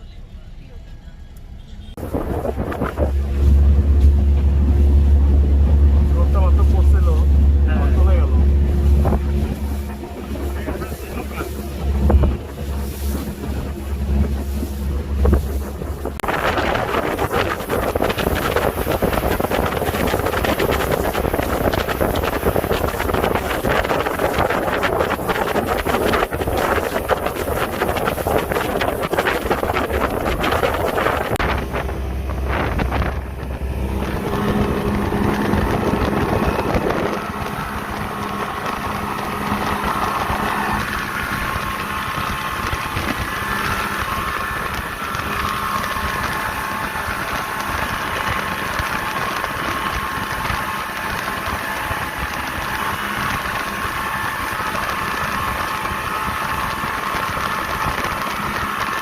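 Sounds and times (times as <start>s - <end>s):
speedboat engine running: 0.0s - 59.0s
wind rushing over microphone: 2.0s - 59.0s.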